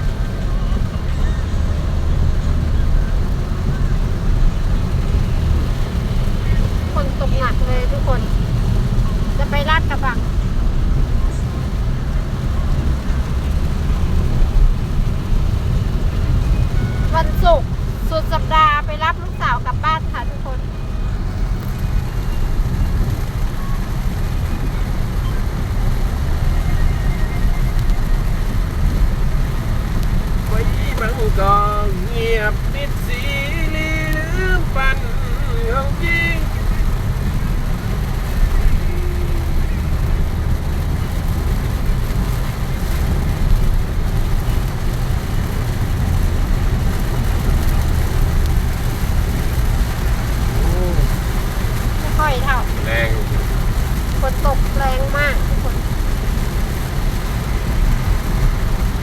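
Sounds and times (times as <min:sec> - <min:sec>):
car driving rumble: 0:00.0 - 0:59.0
rain hiss: 0:00.0 - 0:59.0.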